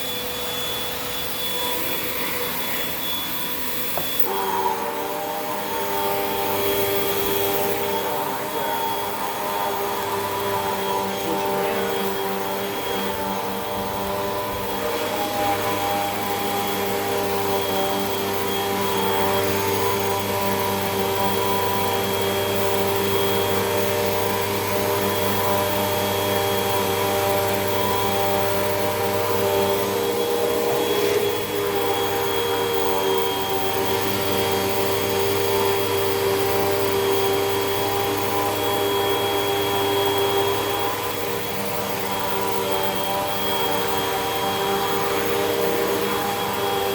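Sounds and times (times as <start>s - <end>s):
vacuum cleaner motor humming: 0.0s - 46.9s.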